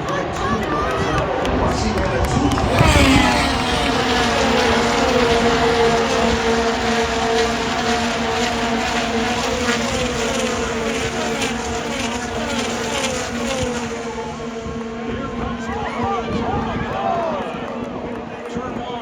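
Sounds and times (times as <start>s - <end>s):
race cars passing at full speed: 0.0s - 19.0s.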